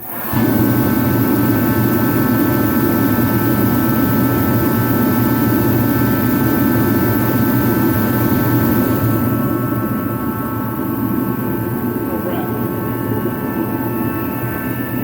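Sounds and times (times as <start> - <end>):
forced-air heater running: 0.0 - 15.0.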